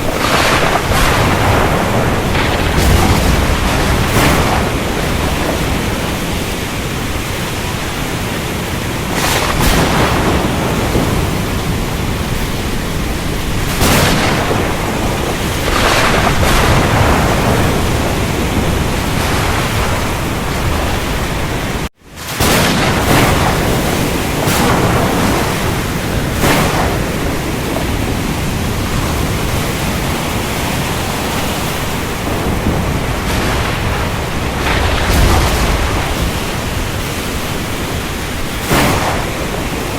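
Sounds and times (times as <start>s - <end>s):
rain: 0.0s - 39.9s
surf breaking: 0.0s - 39.9s
thunder rolling: 0.0s - 39.9s.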